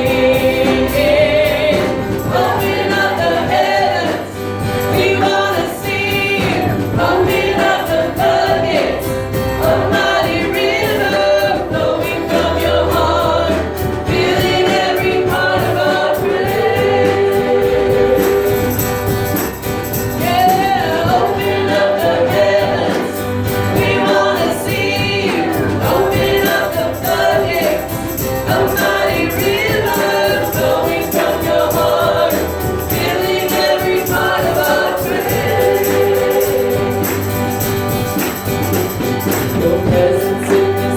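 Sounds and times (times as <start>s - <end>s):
worship band with singers: 0.0s - 40.9s.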